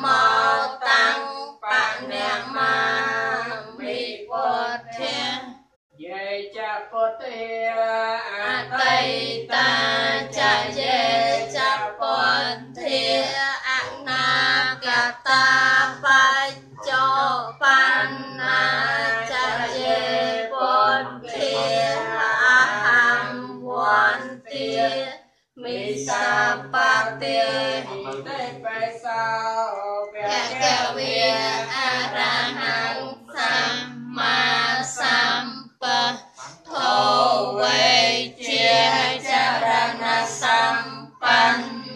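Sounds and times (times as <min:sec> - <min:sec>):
group chanting in unison: 0:00.0 - 0:05.6, 0:07.7 - 0:41.9.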